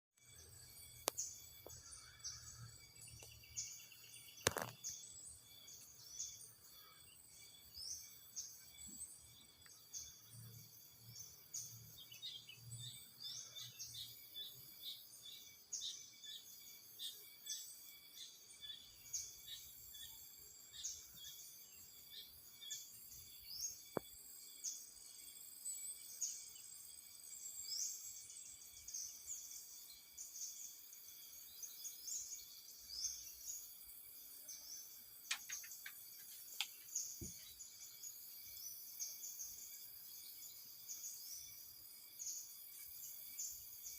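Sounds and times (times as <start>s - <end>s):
insect drone: 0.2s - 43.9s.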